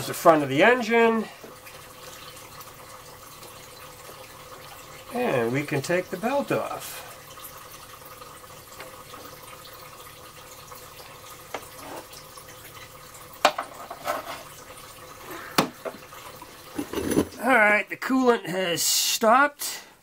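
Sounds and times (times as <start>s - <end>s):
liquid trickling into container: 0.0s - 17.6s.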